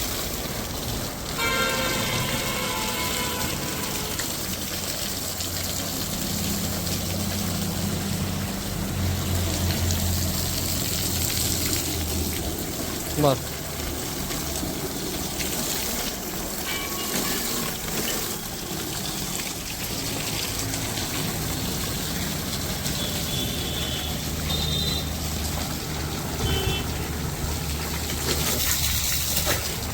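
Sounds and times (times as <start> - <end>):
pressure washer spraying: 0.0 - 12.9, 14.8 - 29.9
pump motor hum: 0.0 - 29.9.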